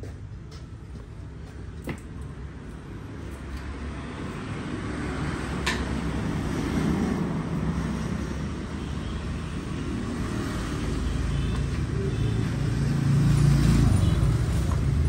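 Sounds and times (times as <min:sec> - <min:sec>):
motor vehicle rumbling: 0:00.0 - 0:08.8, 0:09.4 - 0:15.0.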